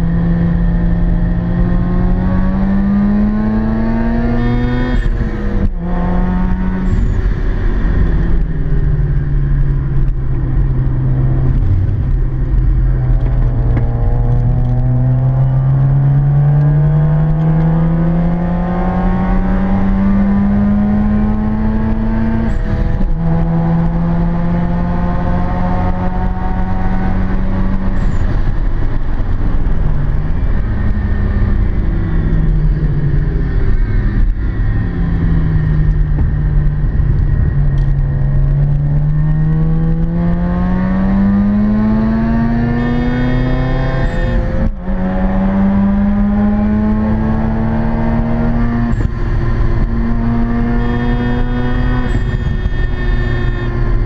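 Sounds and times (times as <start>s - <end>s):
rotary engine accelerating: 0.0s - 54.0s.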